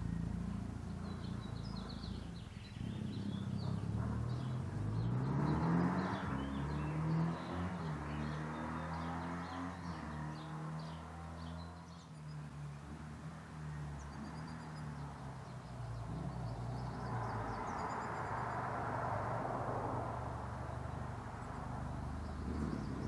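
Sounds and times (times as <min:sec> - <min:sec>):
birds chirping: 0:00.0 - 0:23.0
distant engine droning: 0:00.0 - 0:23.0.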